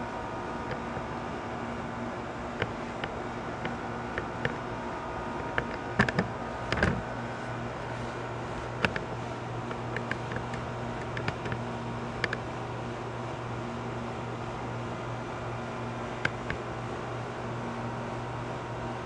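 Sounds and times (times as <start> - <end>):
lower hum: 0.0 - 19.0
steady hum: 0.0 - 19.0.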